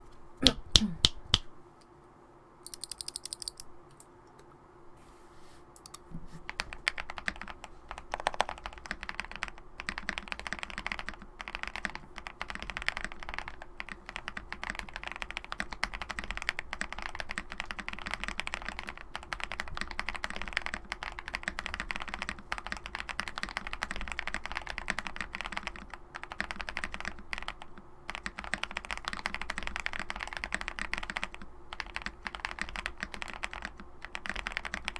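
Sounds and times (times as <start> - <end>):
typing on mechanical keyboard: 2.7 - 3.7, 5.8 - 34.9.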